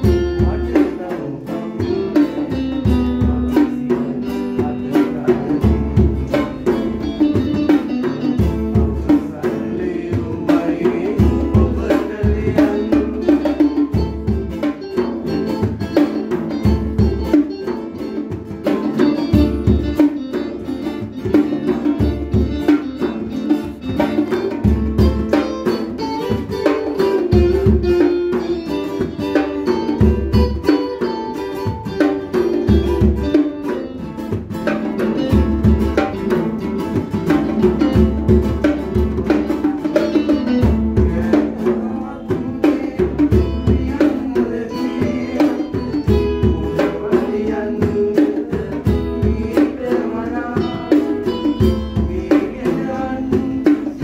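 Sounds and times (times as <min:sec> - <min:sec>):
calypso band playing: 0:00.0 - 0:54.0
conga drum: 0:00.0 - 0:54.0.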